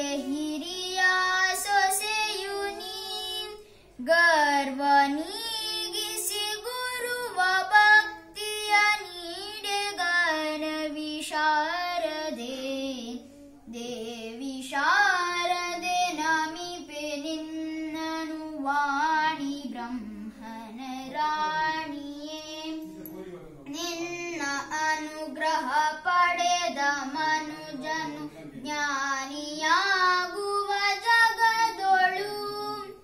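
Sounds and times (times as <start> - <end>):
child singing unaccompanied: 0.0 - 23.1, 23.7 - 33.0.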